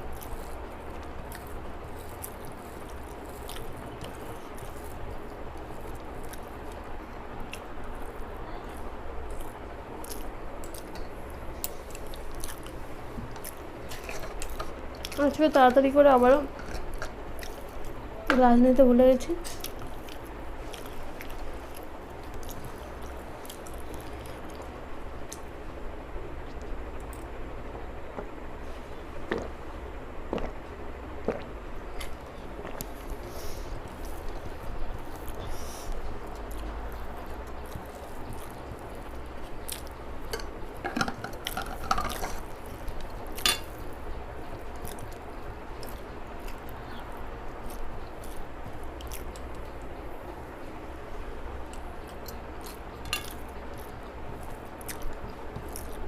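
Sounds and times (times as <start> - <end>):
wet chewing: 0.0 - 15.4, 19.4 - 25.5, 31.2 - 50.6, 51.4 - 56.0
low steady hum: 0.0 - 56.0.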